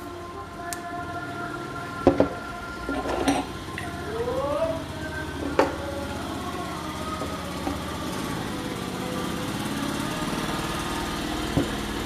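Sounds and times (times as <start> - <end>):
small motor humming: 2.3 - 12.0.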